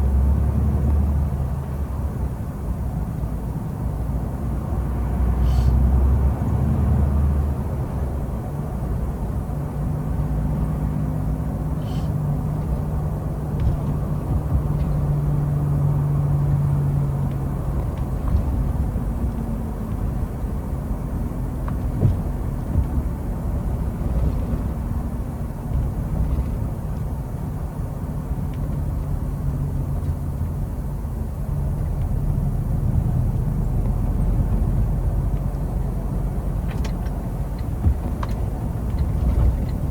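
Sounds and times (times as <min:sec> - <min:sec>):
road rumble: 0:00.0 - 0:39.9.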